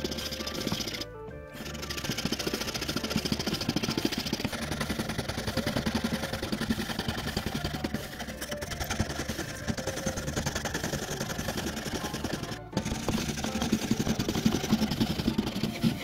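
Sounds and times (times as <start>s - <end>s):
background music: 0.0s - 16.0s
workshop machine running: 0.0s - 16.0s.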